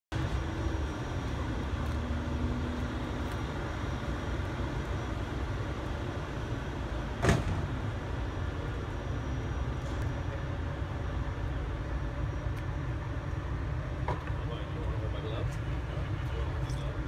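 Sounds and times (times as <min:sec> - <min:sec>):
low rumble of road traffic: 0:00.1 - 0:17.0.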